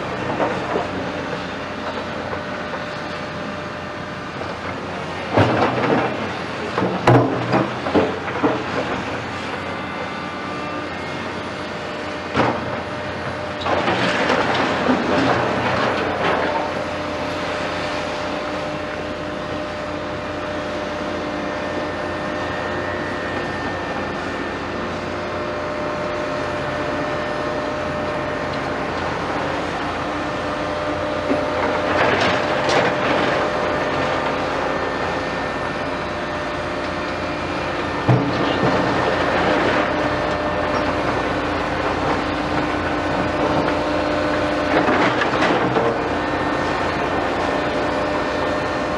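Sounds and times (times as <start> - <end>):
diesel machinery running: 0.0 - 48.9.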